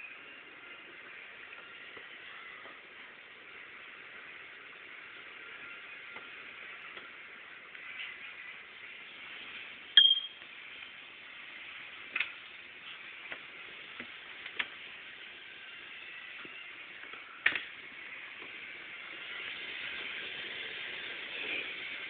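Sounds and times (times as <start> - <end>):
shower water running: 0.0 - 22.0.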